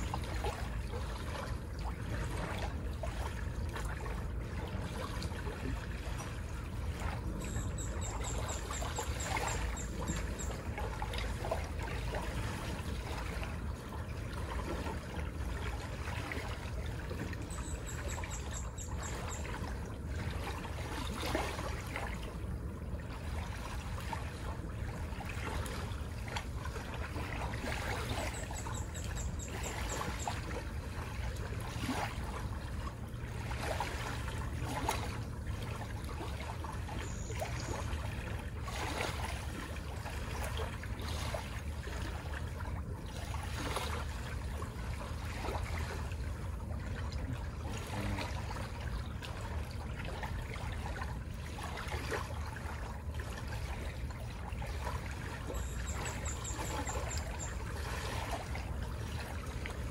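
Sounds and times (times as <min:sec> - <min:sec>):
small waves lapping at shore: 0:00.0 - 0:59.9.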